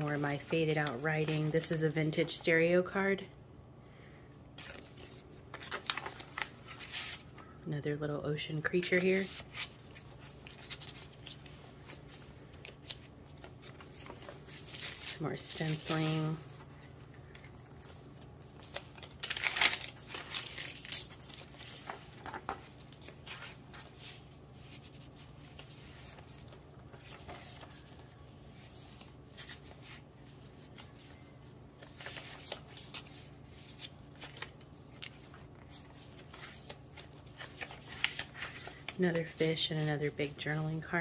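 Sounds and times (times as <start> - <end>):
paper pages rustling: 0.0 - 2.4, 4.6 - 7.3, 8.7 - 41.0.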